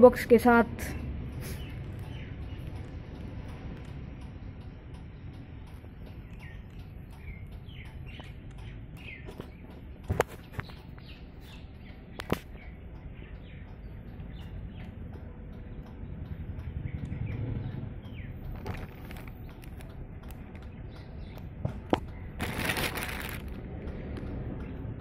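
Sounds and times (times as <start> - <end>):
small birds chirping: 0.0 - 25.0
steady low rumble: 0.0 - 25.0
sharp clicks: 1.3 - 25.0.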